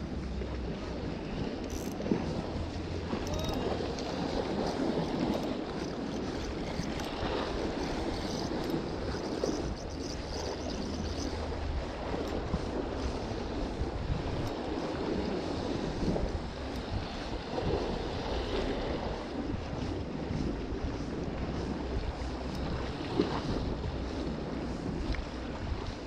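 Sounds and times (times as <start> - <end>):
sea waves washing on shore: 0.0 - 26.0
wind rumble on microphone: 0.0 - 26.0.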